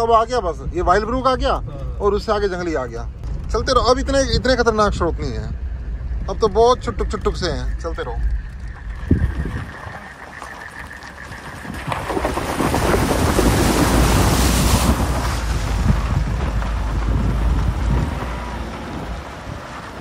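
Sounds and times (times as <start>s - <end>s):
deep rumble: 0.0s - 20.0s
water splashing against car wheels: 0.0s - 20.0s.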